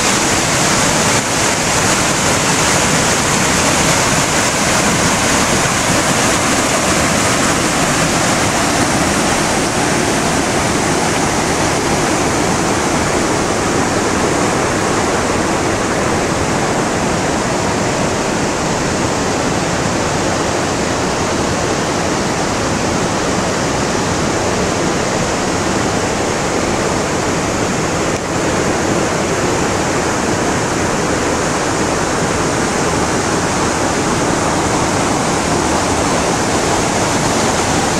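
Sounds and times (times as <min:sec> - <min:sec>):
river rapids roaring: 0:00.0 - 0:37.9.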